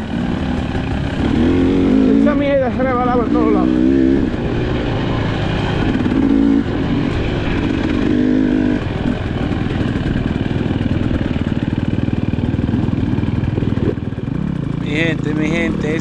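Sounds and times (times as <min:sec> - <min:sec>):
dirt bike engine revving: 0:00.0 - 0:12.0, 0:13.5 - 0:16.0.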